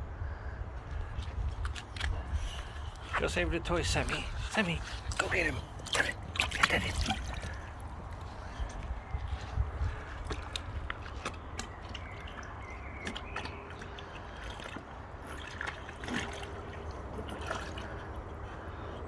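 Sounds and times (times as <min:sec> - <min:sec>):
water splashing and sloshing: 0:00.2 - 0:19.0.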